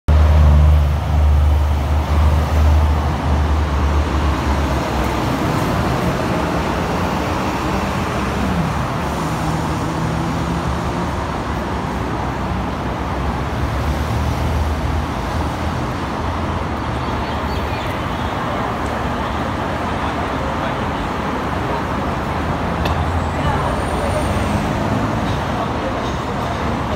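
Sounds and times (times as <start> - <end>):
city street traffic: 0.1 - 26.9.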